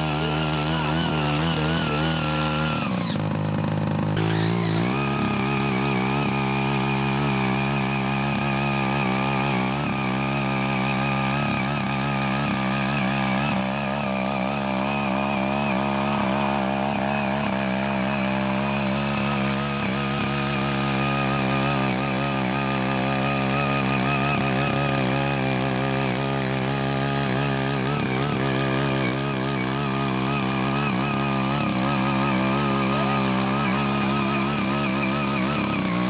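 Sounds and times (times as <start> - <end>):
rotary tines tilling soil: 0.0 - 36.0
small tiller engine running: 0.0 - 36.0.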